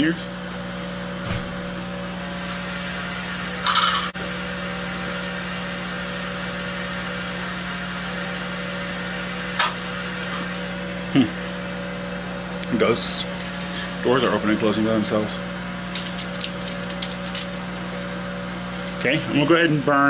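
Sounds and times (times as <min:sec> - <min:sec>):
electric motor hum: 0:00.0 - 0:20.0.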